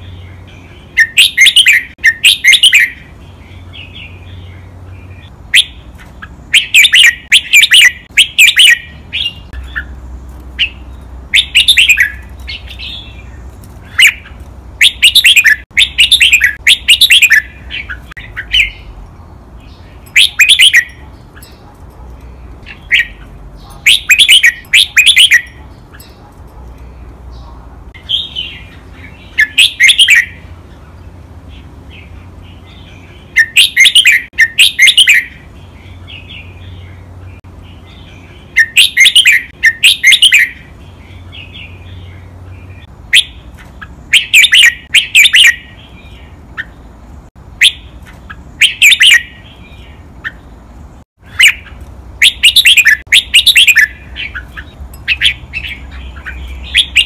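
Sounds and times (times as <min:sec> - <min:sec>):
bird singing: 0:00.0 - 0:57.0.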